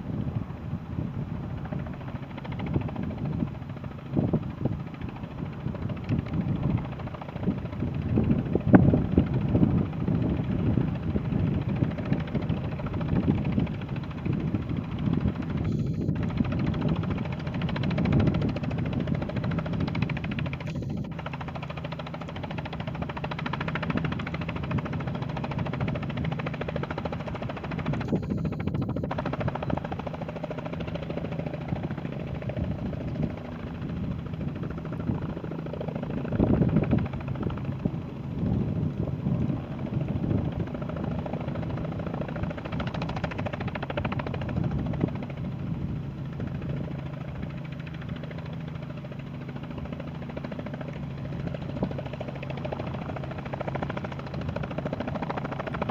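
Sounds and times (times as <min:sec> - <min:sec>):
helicopter engine and rotor drone: 0:00.0 - 0:55.9.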